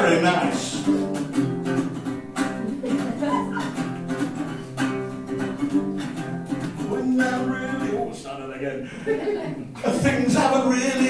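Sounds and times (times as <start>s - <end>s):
acoustic guitar strumming chords: 0.0s - 8.2s, 9.8s - 11.0s.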